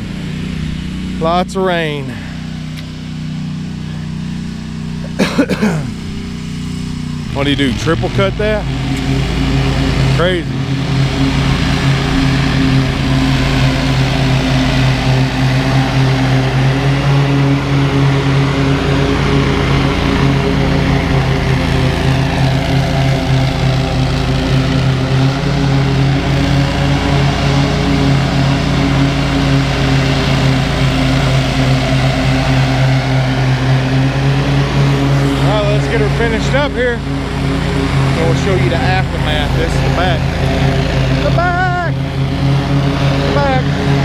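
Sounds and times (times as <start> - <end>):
mower blades cutting wet grass: 0.0 - 44.0
mower engine running: 0.0 - 44.0.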